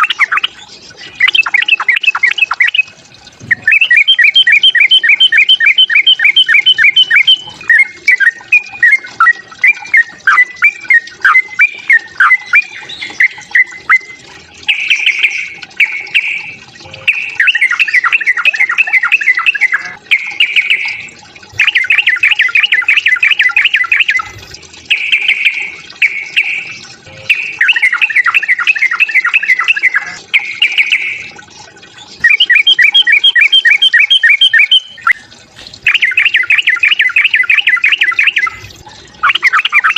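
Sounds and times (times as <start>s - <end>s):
bird chattering song: 0.0s - 2.9s, 3.5s - 35.2s, 35.8s - 39.9s.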